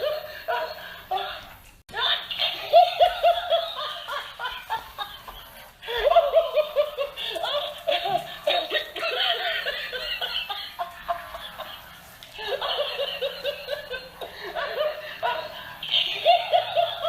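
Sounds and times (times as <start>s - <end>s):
toy playing recorded laughter: 0.0s - 17.0s.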